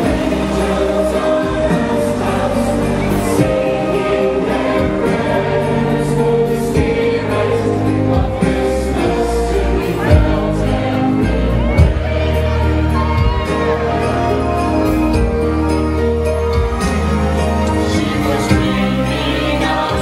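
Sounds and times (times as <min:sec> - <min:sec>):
choir singing a carol: 0:00.0 - 0:20.0
steady bass accompaniment: 0:00.0 - 0:20.0.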